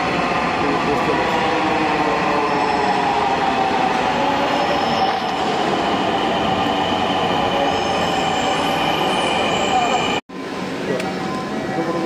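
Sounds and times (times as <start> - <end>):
train wheel and track noise: 0.0 - 12.0.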